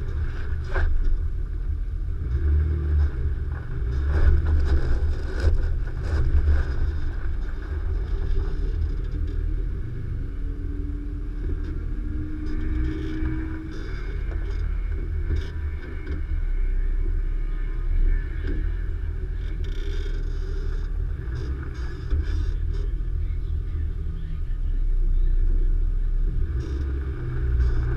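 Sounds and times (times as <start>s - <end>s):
engine rumbling at low speed: 0.0s - 27.9s.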